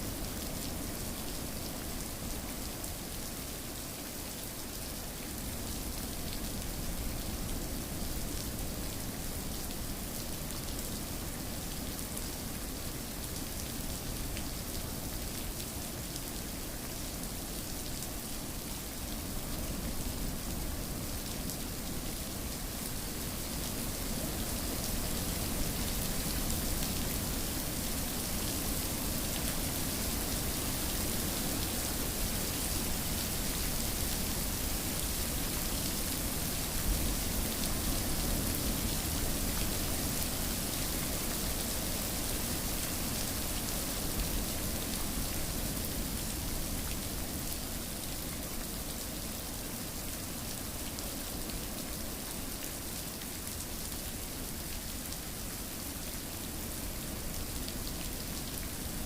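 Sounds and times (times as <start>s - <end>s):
rain pattering: 0.1s - 59.0s.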